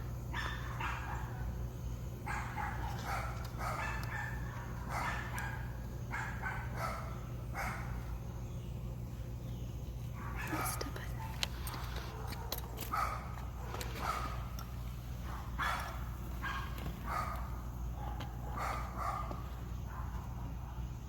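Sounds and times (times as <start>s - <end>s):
steady low hum: 0.0s - 21.0s
dog barking: 0.3s - 1.6s, 2.2s - 8.1s, 10.1s - 21.0s.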